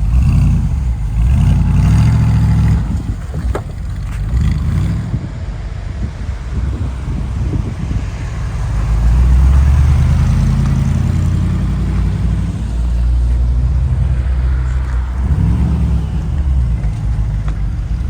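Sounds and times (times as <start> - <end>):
car engine and exhaust: 0.0 - 18.0.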